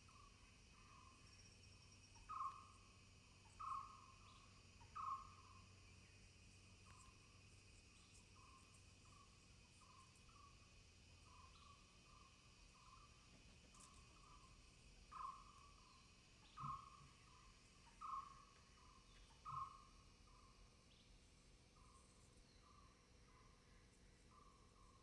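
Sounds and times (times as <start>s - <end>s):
faint insect ticking: 0.0s - 25.0s.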